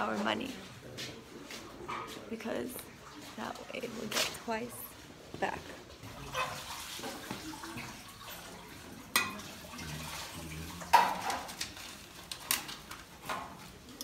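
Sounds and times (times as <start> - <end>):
water splashing and trickling: 2.2 - 14.0.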